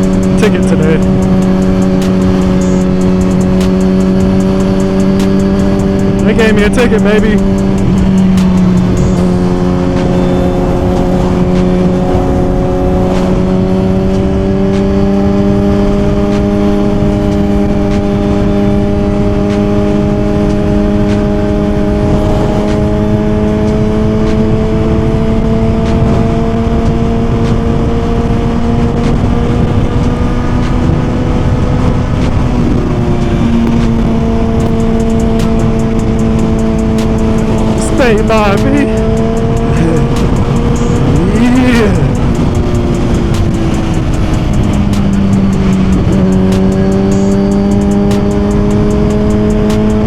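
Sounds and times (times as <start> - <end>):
motorcycle engine cruising: 0.0 - 50.0.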